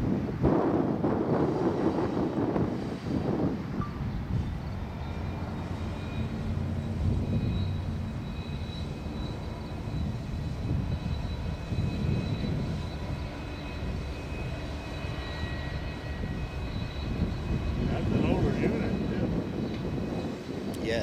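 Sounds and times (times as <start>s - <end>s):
diesel locomotive rumble: 0.0s - 21.0s.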